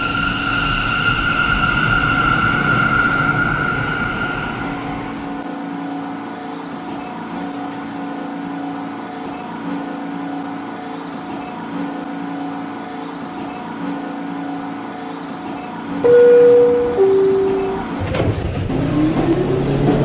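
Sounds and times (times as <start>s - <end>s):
subway train motor whine: 0.0s - 20.0s.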